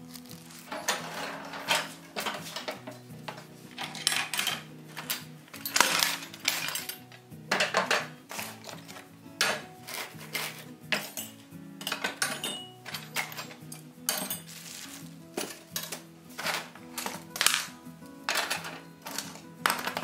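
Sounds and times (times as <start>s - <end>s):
background music: 0.0s - 20.0s
metal hardware clanking into metal tray: 0.6s - 14.8s, 15.4s - 17.7s, 18.3s - 20.0s.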